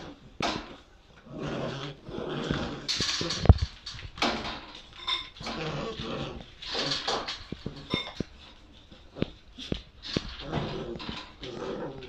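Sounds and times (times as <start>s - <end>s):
puppies scuffling: 0.0s - 12.0s.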